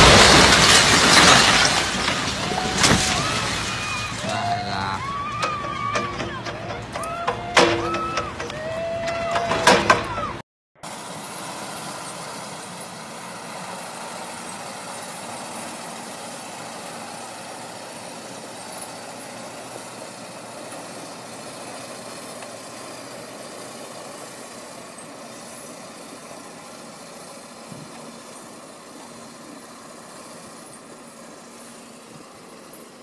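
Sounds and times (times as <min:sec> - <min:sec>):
truck diesel engine pulling uphill: 0:00.0 - 0:33.0.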